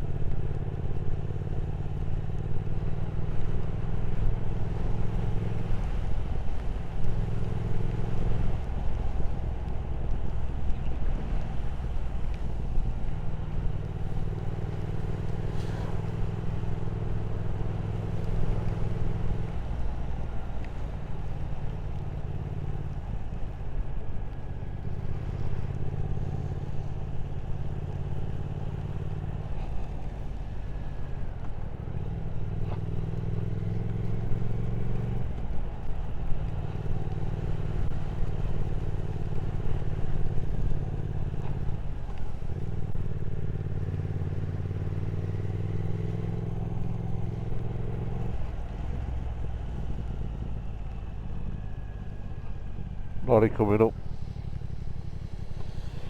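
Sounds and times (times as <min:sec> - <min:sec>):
motorcycle engine cruising: 0:00.0 - 0:56.0
rush of riding noise: 0:00.0 - 0:56.0.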